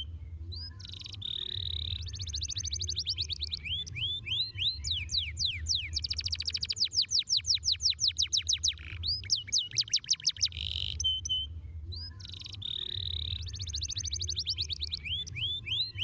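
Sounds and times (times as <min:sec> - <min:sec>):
canary singing: 0:00.0 - 0:16.0
low steady hum: 0:00.0 - 0:16.0.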